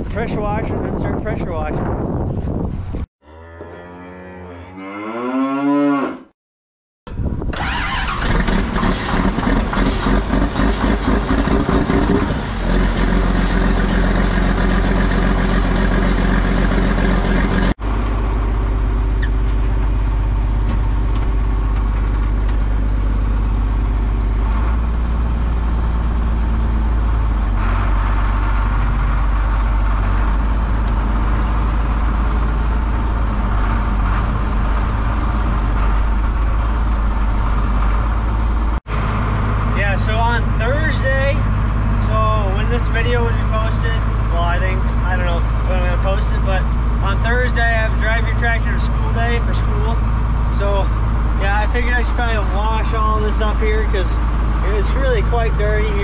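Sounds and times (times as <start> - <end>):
diesel tractor engine running: 7.1 - 56.0.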